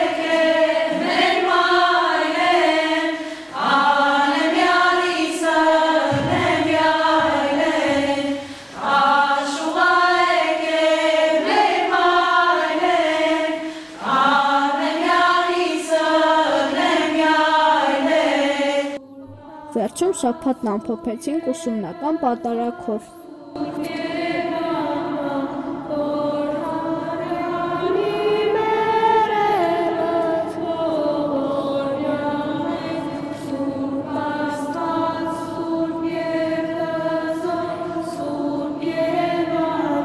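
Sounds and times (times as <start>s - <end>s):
women singing together: 0.0s - 40.0s.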